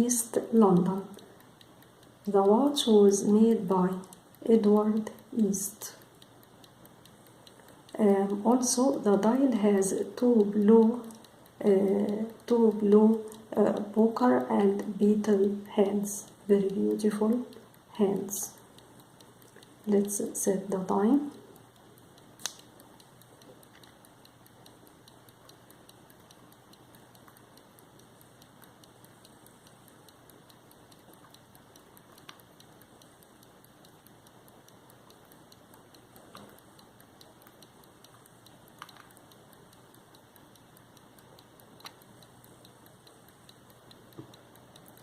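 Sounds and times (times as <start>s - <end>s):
pocket watch ticking: 0.0s - 45.0s.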